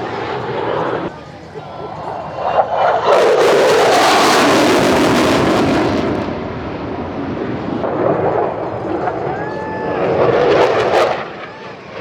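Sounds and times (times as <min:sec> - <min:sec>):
fighter jet roar flyby: 0:00.0 - 0:12.0.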